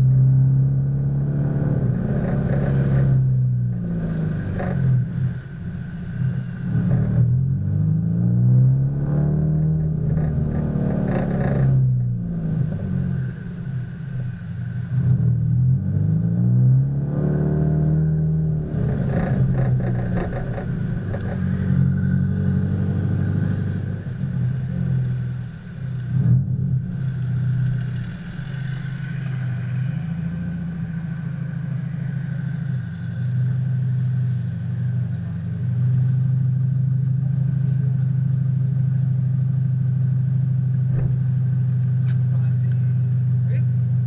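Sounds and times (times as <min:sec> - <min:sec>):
muffled car engine idling: 0:00.0 - 0:44.0.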